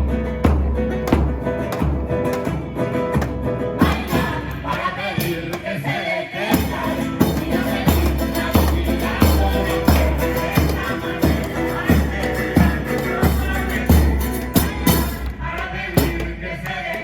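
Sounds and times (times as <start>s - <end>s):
music with percussive beat: 0.0s - 5.9s, 6.5s - 17.0s.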